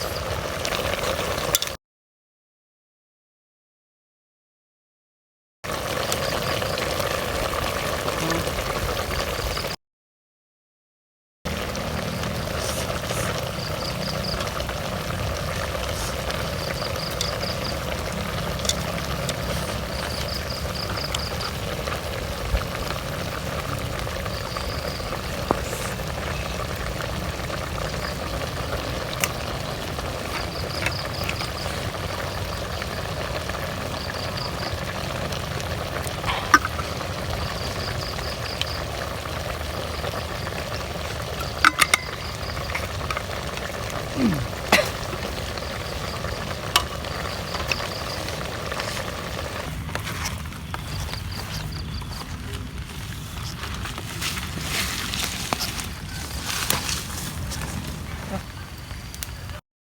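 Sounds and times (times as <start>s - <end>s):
steady rain: 5.7s - 9.8s, 11.5s - 59.6s.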